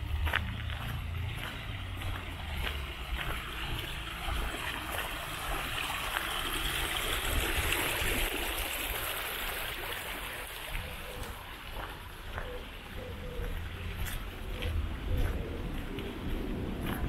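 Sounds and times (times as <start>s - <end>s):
small stream flowing: 0.0s - 17.0s.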